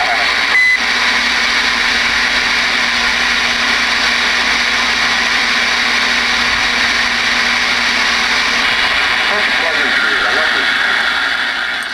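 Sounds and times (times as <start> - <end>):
radio static hiss: 0.0 - 11.9.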